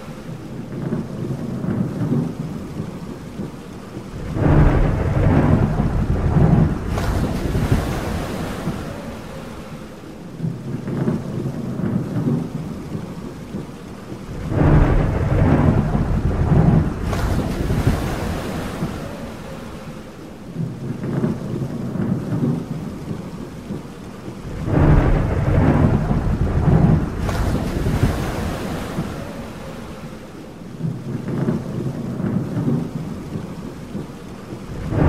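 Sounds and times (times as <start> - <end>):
steady rain: 0.0 - 35.0
thunder rolling: 0.7 - 9.6, 14.1 - 23.2, 24.2 - 35.0.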